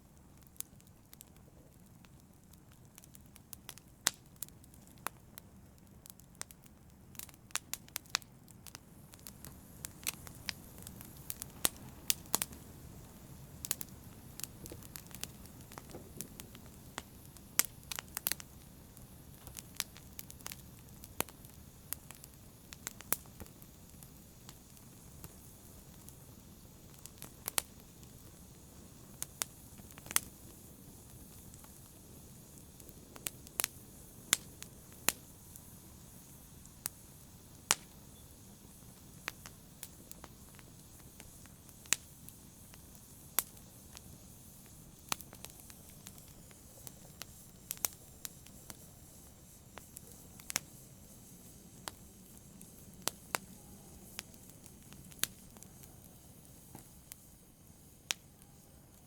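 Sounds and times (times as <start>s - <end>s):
fire crackling and popping: 0.0s - 59.0s
soft hiss of burning: 0.0s - 59.0s.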